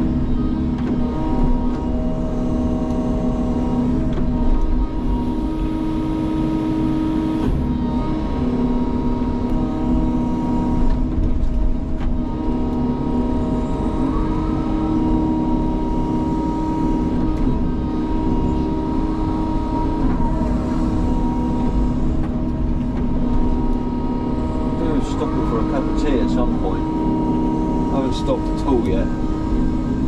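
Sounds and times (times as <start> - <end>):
excavator diesel engine and hydraulics: 0.0 - 30.0.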